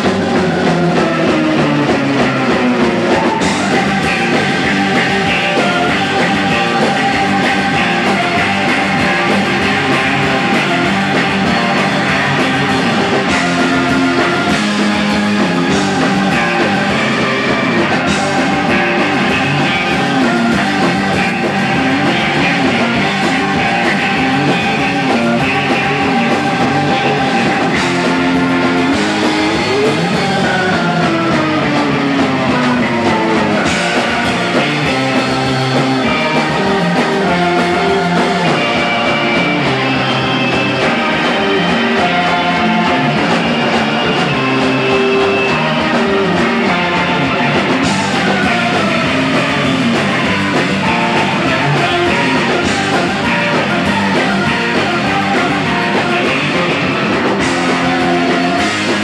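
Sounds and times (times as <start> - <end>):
surf rock band playing: 0.0 - 59.0.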